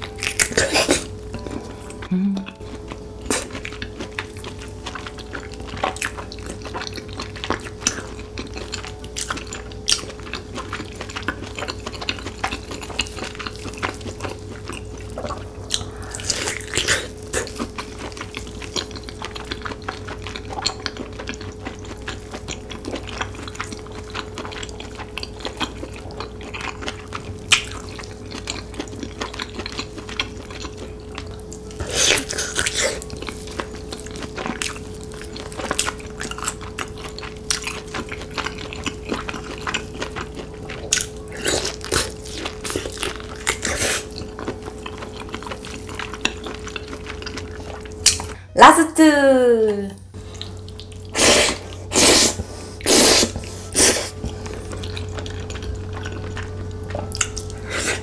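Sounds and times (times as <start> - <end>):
wet chewing and lip-smacking: 0.1 - 48.4, 50.1 - 58.0.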